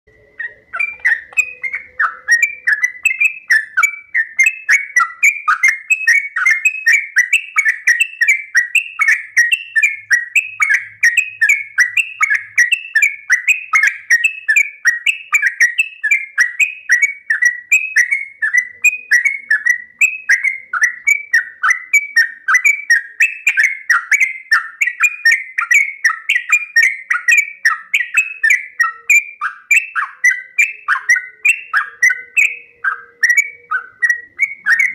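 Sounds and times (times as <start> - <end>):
bulbul singing: 0.1 - 34.9.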